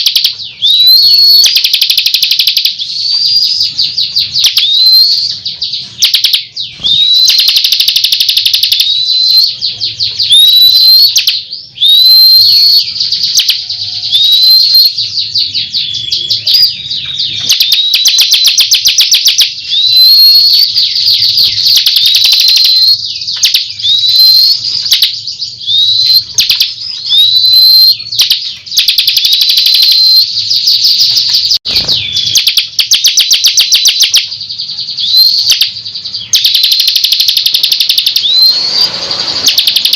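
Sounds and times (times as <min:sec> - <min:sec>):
bird rattling trills: 0:00.0 - 0:11.4, 0:16.4 - 0:39.9
bird whistled notes: 0:00.0 - 0:39.9.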